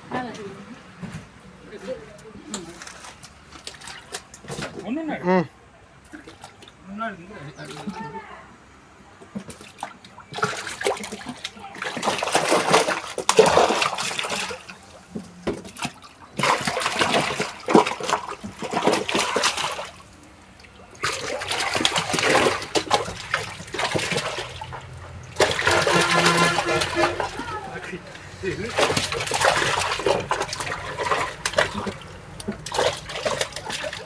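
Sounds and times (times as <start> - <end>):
water splashing and sloshing: 0.0 - 5.2, 5.8 - 8.3, 9.0 - 34.0.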